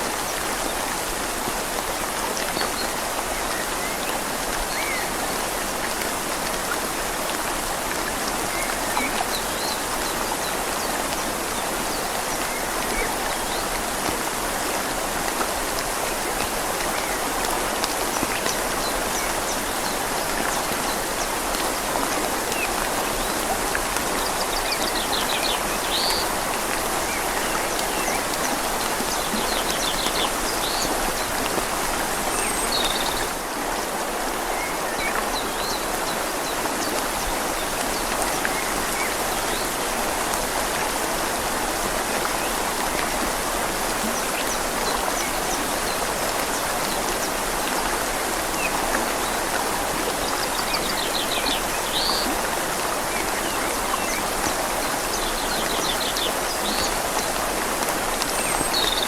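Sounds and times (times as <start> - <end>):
rain falling on leaves: 0.0 - 59.0
river flowing: 0.0 - 59.0.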